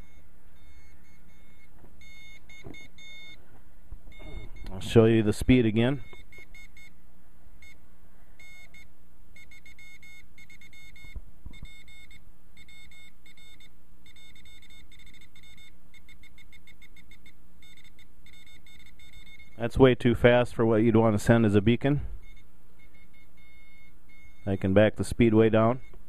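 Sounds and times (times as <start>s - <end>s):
morse code beeping: 0.0s - 3.4s, 4.1s - 7.0s, 8.4s - 20.2s, 21.3s - 26.0s.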